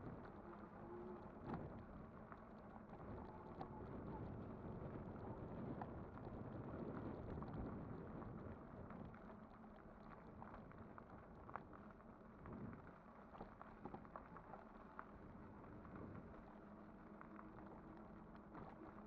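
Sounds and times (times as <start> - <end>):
e-bike tyres rolling: 0.0 - 19.0
small clicks and ticks: 0.0 - 19.0.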